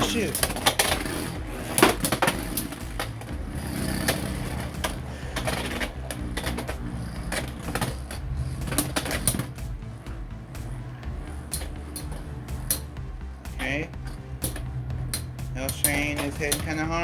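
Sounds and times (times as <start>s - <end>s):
spinning whir: 0.0s - 17.0s.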